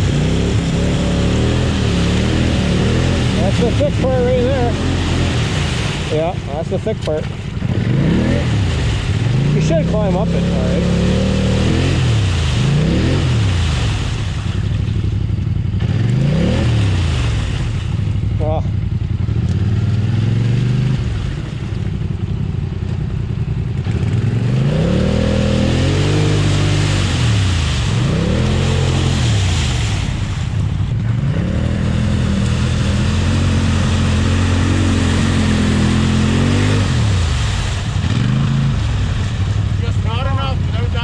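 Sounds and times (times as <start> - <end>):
atv engine revving: 0.0 - 41.0.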